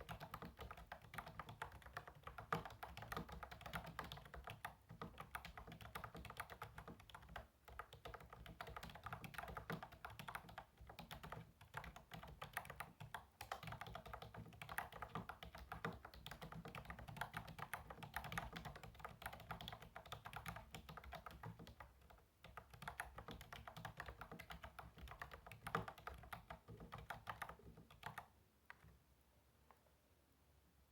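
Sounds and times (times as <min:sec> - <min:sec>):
fast keyboard typing: 0:00.0 - 0:28.3.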